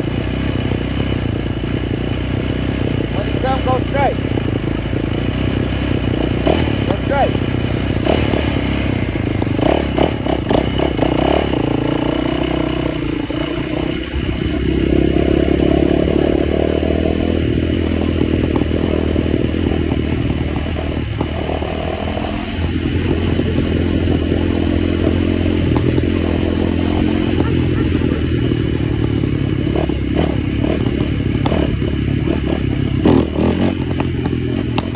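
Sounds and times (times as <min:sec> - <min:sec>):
small motorbike engine revving: 0:00.0 - 0:34.9.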